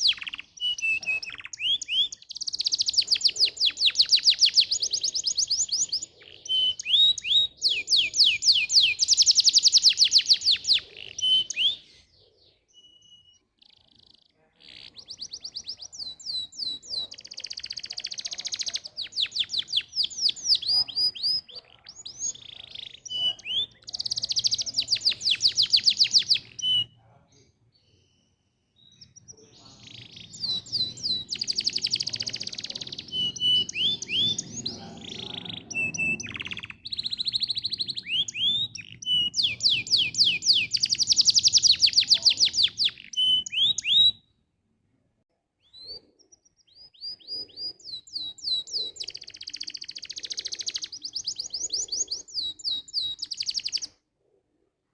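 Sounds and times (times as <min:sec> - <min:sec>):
canary singing: 0:00.0 - 0:44.4, 0:45.6 - 0:54.0.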